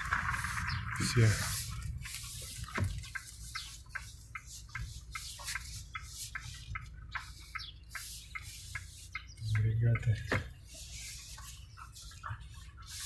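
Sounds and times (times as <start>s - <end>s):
light regular ticking: 0.0s - 13.0s.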